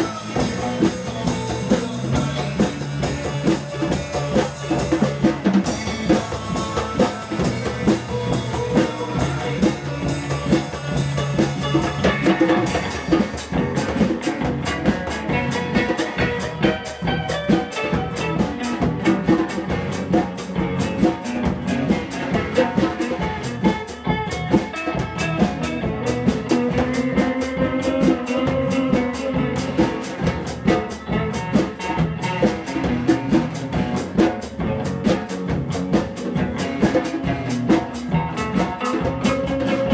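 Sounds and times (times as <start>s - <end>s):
drum kit beat: 0.0s - 39.9s
guitar: 0.0s - 39.9s.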